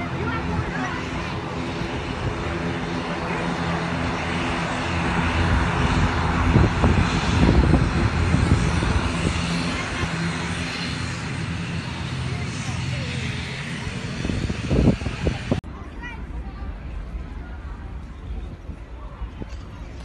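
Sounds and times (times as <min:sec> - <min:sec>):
propeller aircraft drone: 0:00.0 - 0:20.0.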